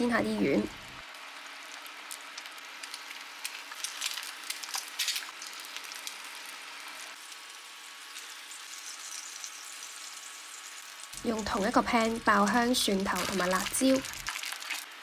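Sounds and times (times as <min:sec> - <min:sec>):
food frying in oil: 0:00.0 - 0:15.0.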